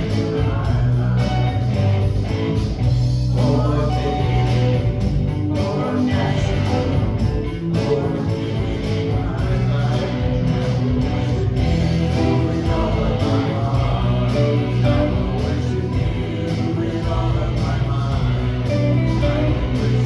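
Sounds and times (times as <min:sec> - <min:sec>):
worship band playing: 0:00.0 - 0:20.0.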